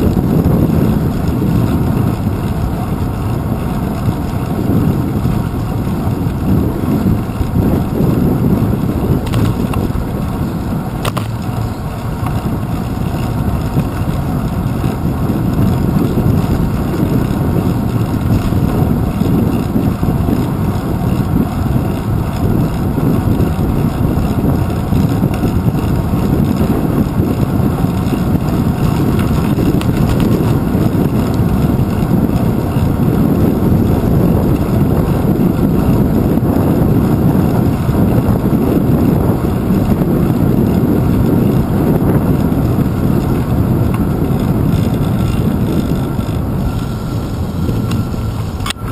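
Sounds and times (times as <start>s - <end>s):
road vibration rumble: 0.0s - 48.9s
wind buffeting: 0.0s - 48.9s.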